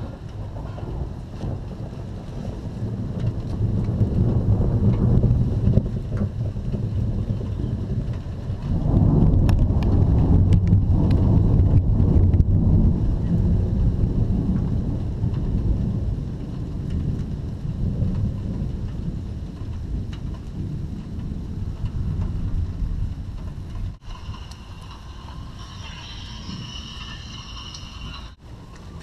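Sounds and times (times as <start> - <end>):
rolling thunder: 0.0 - 29.0.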